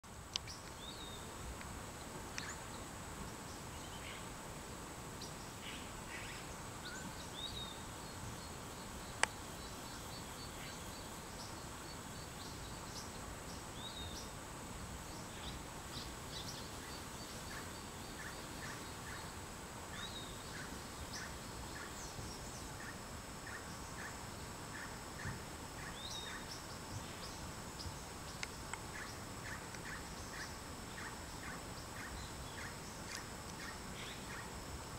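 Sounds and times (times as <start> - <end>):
steady hiss: 0.0 - 34.9.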